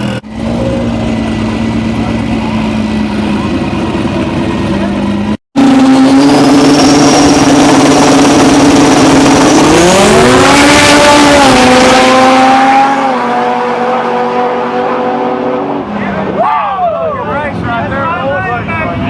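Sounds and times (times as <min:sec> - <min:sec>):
race car engine revving: 0:00.0 - 0:16.4.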